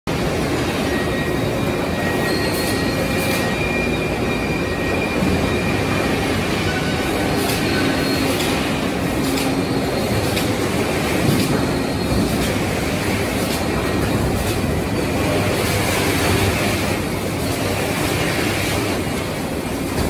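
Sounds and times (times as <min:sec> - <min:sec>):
faint high whining tones: 0:00.2 - 0:18.0.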